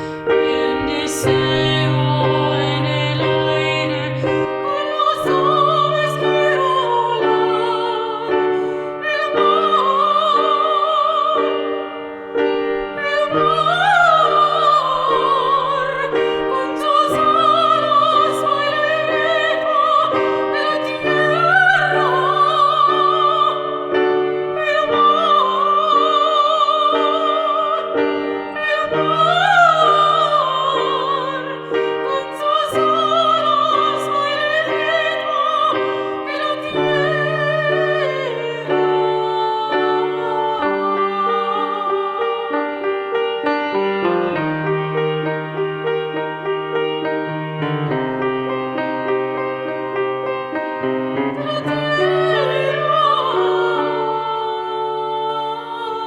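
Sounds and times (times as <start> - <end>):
woman singing operatic soprano: 0.0 - 12.2, 13.0 - 43.2, 51.1 - 56.0
piano chords: 0.0 - 56.0.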